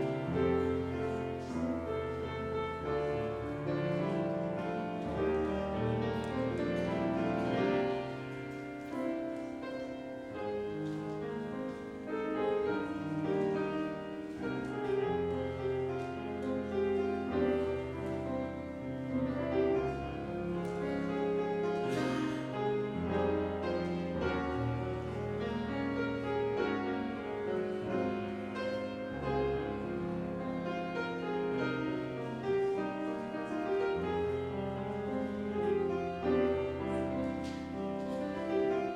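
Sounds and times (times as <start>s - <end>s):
classical piano piece: 0.0s - 38.9s.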